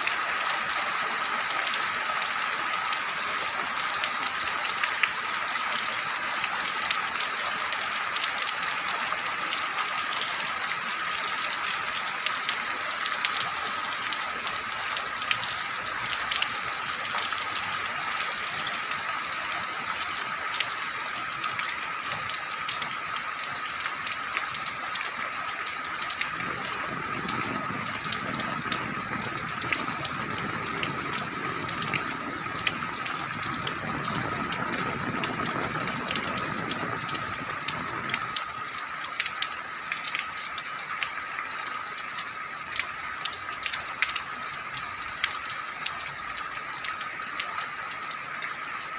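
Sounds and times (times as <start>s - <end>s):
deep rushing water: 0.0s - 41.4s
heavy rain pouring: 0.0s - 48.9s.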